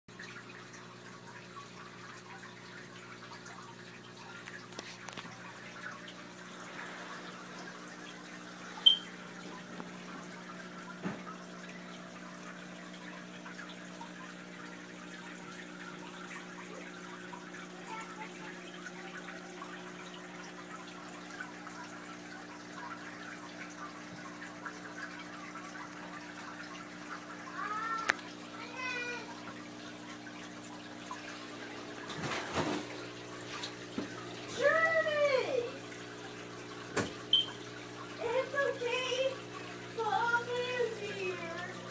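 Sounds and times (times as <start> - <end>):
aquarium water trickling and bubbling: 0.1 - 41.9
pump electrical hum: 0.1 - 41.9.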